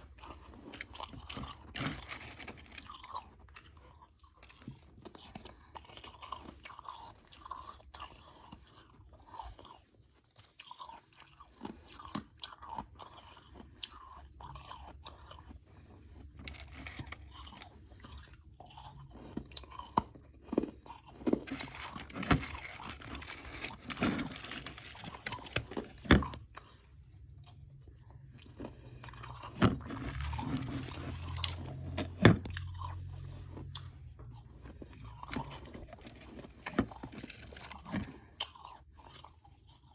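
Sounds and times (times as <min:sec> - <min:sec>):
person chewing crunchy ice: 0:00.0 - 0:39.9.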